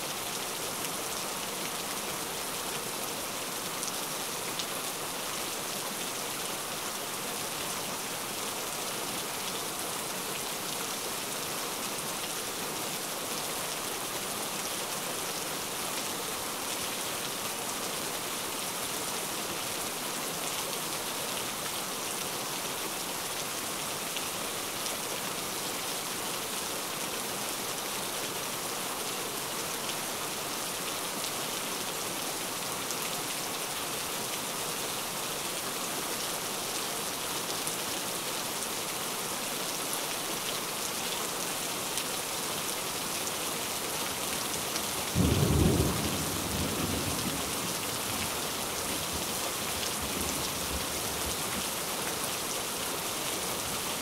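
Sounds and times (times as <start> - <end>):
heavy rain falling: 0.1 - 54.0.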